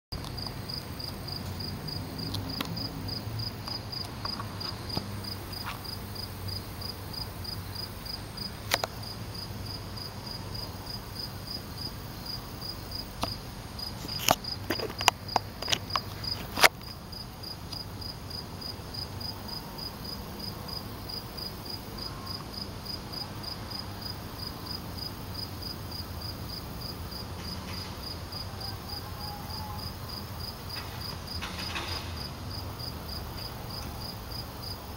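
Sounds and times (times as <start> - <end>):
cricket chirping: 0.2 - 34.9.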